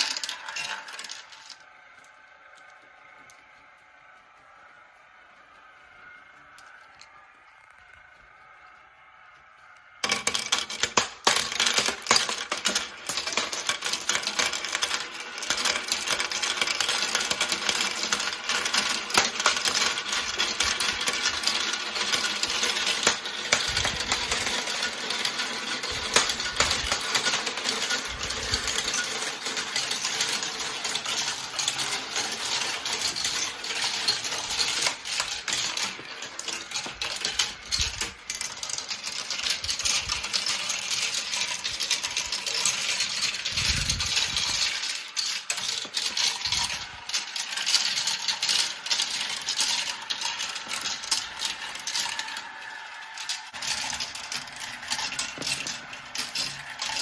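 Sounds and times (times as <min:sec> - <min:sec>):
marbles rattling down track: 0:00.0 - 0:04.3, 0:05.5 - 0:57.0.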